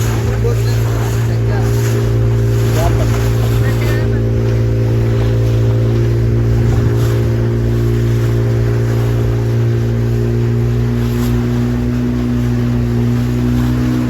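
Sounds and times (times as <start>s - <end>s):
motorboat engine running: 0.0s - 14.0s
water noise: 0.0s - 14.0s.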